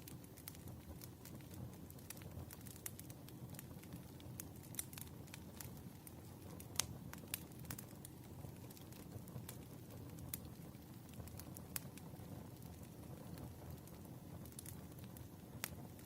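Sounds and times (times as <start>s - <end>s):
burning logs pops and snaps: 0.0s - 16.0s
wood fire crackling: 0.0s - 16.0s.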